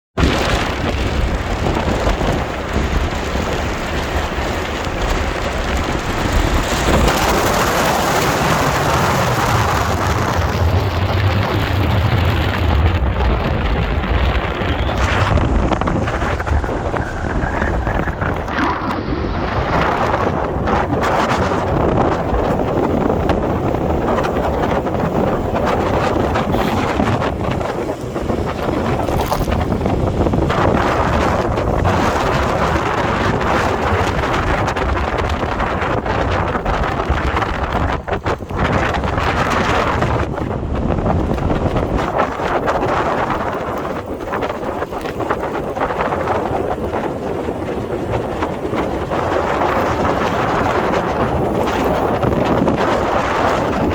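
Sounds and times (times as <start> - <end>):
wind buffeting microphone: 0.2 - 53.9.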